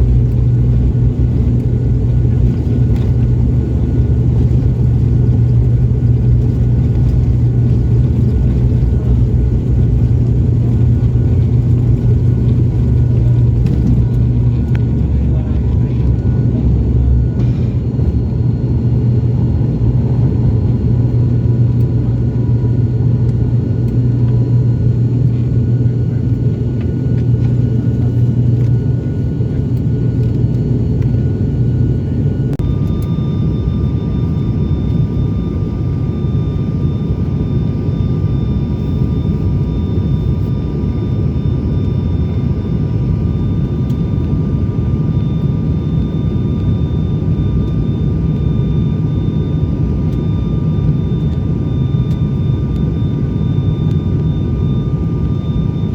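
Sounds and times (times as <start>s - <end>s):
low hum: 0.0s - 55.9s
propeller engines droning: 0.0s - 55.9s.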